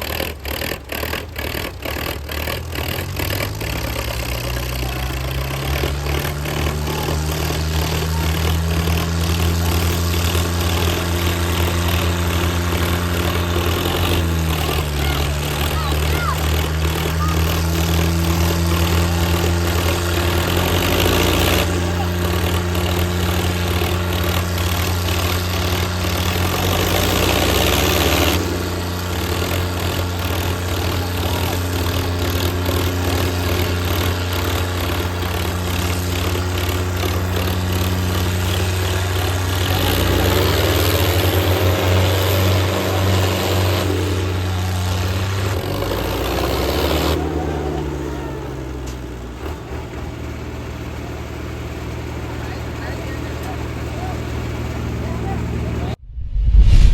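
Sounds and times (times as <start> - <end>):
tractor engines running hard: 0.0 - 56.0.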